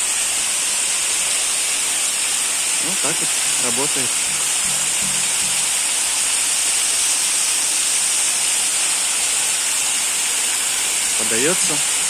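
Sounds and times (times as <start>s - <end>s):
splashing water hiss: 0.0s - 12.0s.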